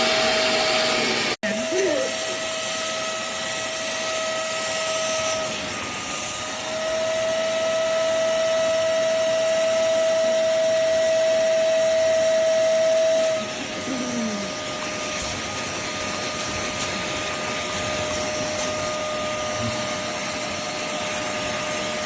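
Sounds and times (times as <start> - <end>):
spot cleaner suction motor whine: 0.0 - 22.0.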